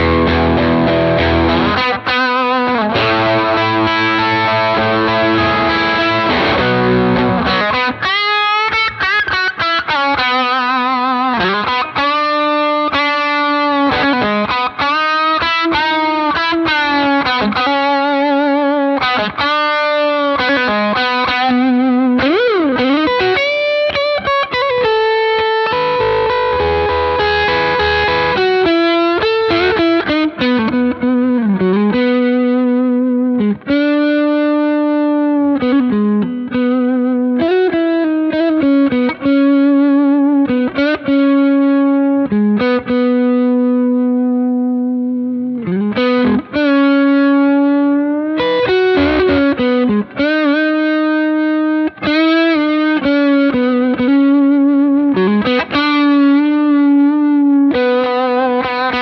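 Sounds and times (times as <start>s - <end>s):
overdriven electric guitar lead: 0.0s - 59.0s.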